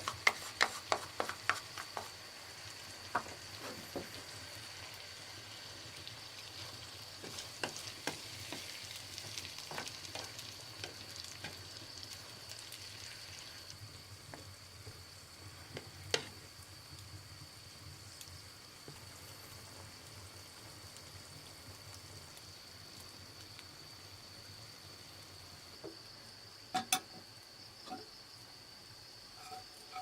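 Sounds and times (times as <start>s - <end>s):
cooking fire sizzling and crackling: 0.0s - 30.0s.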